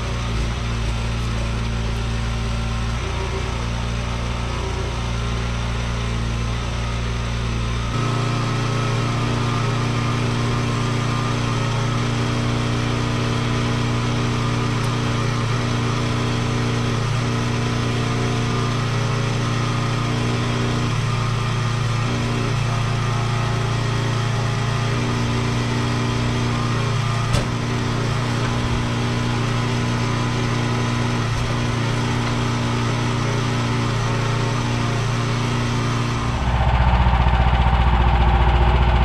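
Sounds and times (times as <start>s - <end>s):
sawmill gasoline engine running: 0.0s - 39.0s.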